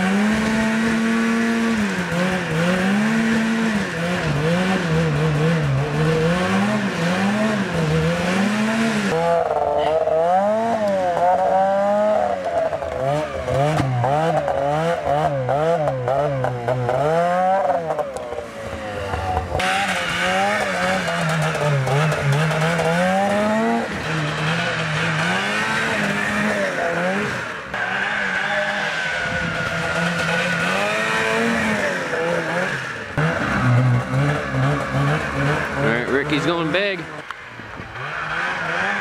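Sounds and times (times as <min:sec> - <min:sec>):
snowmobile engine revving: 0:00.0 - 0:39.0.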